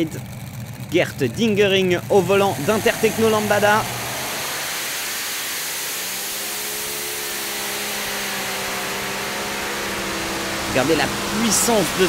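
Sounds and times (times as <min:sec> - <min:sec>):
pulling tractor engines roaring: 0:00.0 - 0:12.0.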